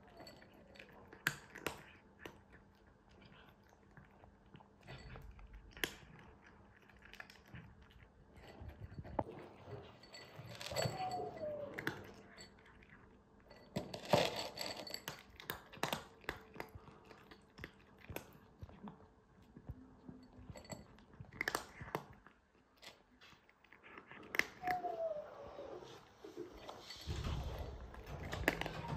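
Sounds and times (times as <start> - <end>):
cat crunching dry kibble: 0.0 - 10.9, 11.8 - 24.6.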